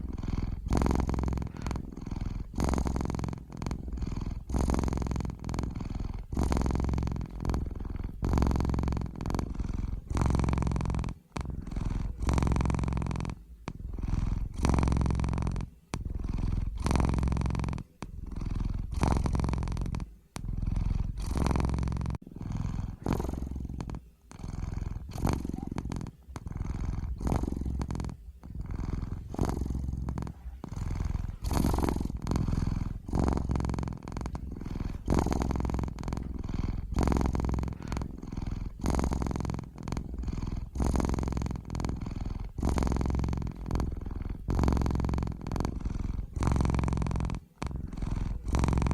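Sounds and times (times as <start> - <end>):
cat purring: 0.0 - 48.9.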